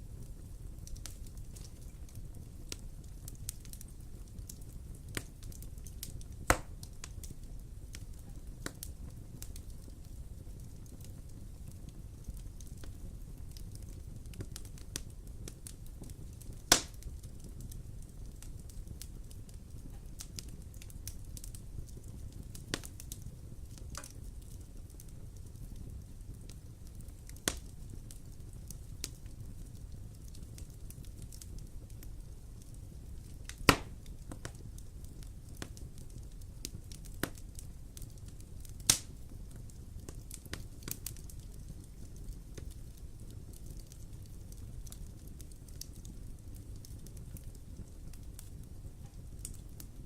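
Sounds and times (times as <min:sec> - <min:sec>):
fire crackling and popping: 0:00.0 - 0:50.0
fire low rumble: 0:00.0 - 0:50.0.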